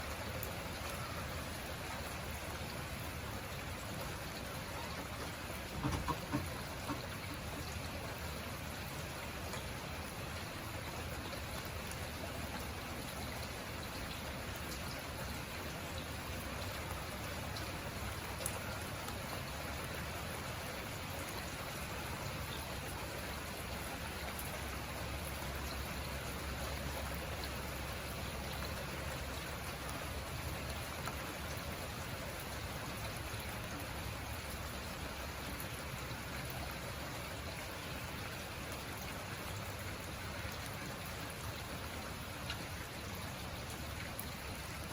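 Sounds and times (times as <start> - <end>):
steady rain with drop ticks: 0.0 - 44.9.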